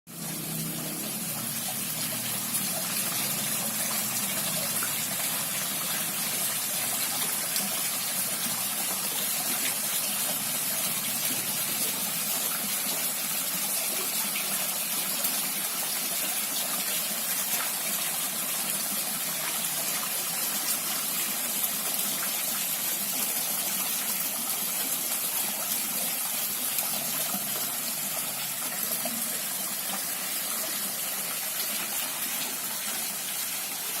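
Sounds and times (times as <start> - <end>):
waterfall splashing into pond: 0.1 - 34.0.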